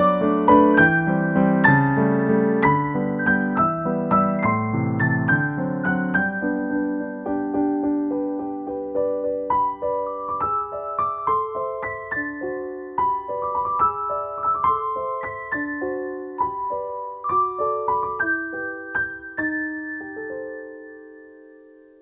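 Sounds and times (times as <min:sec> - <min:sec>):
flowing piano melody: 0:00.0 - 0:22.0.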